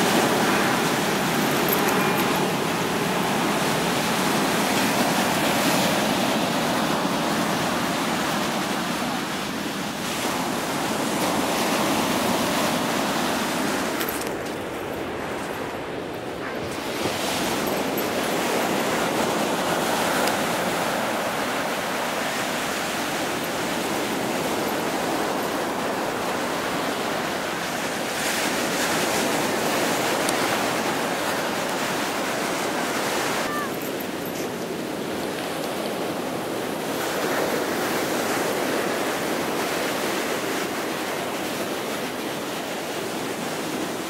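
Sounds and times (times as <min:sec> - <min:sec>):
ocean surf washing up beach: 0:00.0 - 0:44.0.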